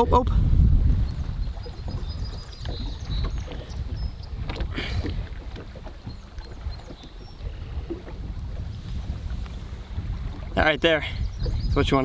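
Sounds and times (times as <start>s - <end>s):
water lapping against boat hull: 0.0s - 12.0s
wind rumbling on microphone: 0.0s - 12.0s.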